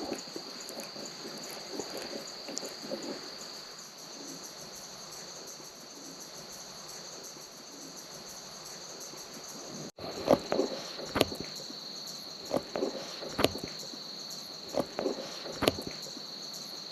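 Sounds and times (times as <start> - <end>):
crickets trilling: 0.0 - 16.9
pulsed insect chirping: 0.0 - 16.9.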